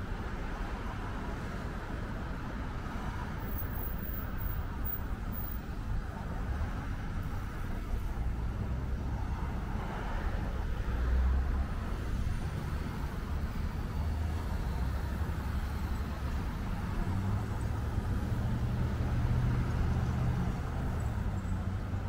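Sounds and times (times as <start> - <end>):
cars passing: 0.0 - 22.0.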